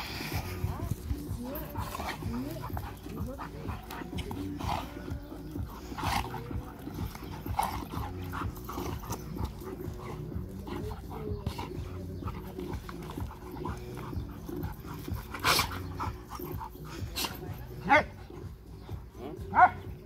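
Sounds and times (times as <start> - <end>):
dogs growling: 0.0 - 20.0.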